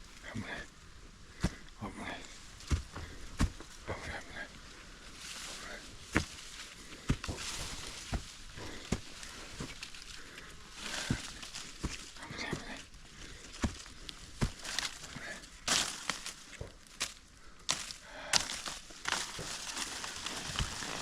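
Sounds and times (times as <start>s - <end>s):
footsteps on dirt trail: 1.3s - 21.0s.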